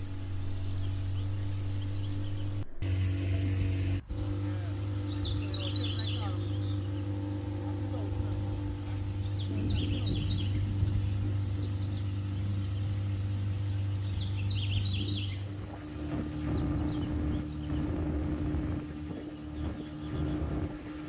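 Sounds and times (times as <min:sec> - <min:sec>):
bird chirps: 0:00.0 - 0:02.8, 0:04.8 - 0:18.4, 0:19.1 - 0:20.6
boat motor humming: 0:00.0 - 0:21.0.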